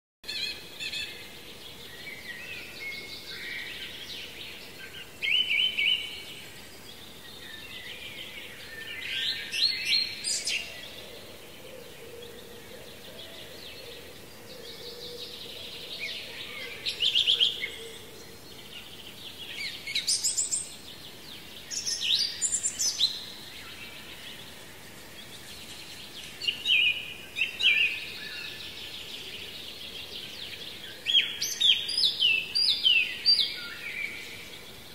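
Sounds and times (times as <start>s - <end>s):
nearby birds trilling song: 0.2s - 34.9s.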